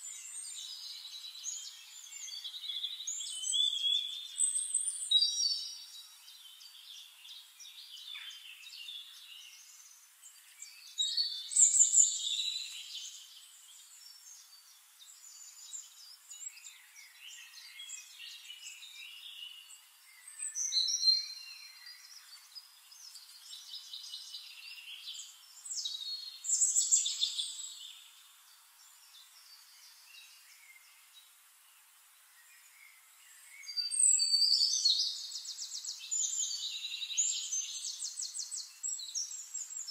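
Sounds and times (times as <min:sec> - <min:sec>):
faint hiss: 0:00.0 - 0:39.9
songbirds singing: 0:00.0 - 0:39.9.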